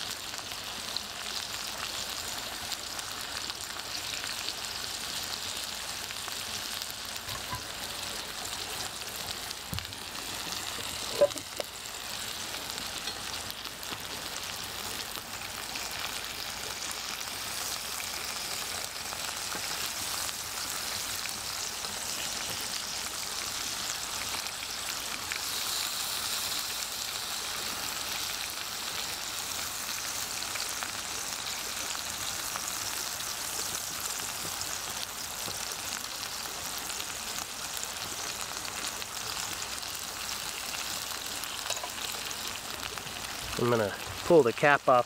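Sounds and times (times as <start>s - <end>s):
steak sizzling in a pan: 0.0s - 45.0s.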